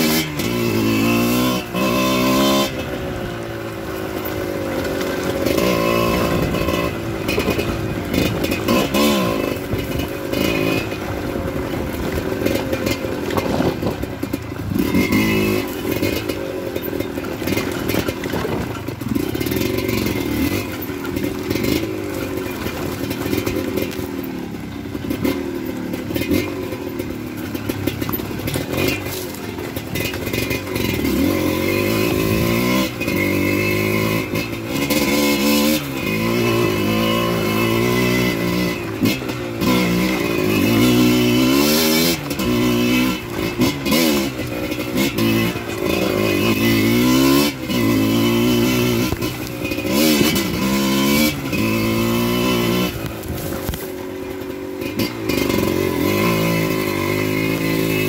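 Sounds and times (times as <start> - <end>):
dirt bike engine revving: 0.0 - 58.0
bike clattering over rough ground: 3.8 - 57.9.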